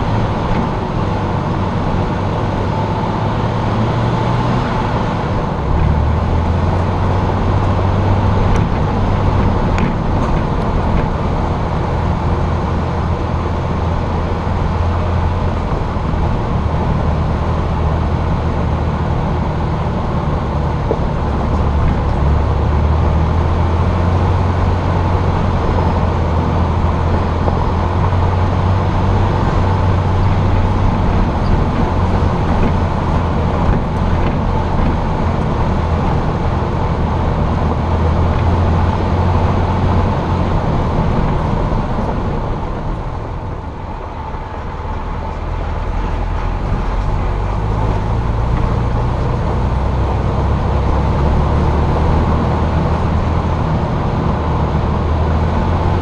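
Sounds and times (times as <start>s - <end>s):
engine low drone: 0.0s - 56.0s
tyre and road rumble: 0.0s - 56.0s.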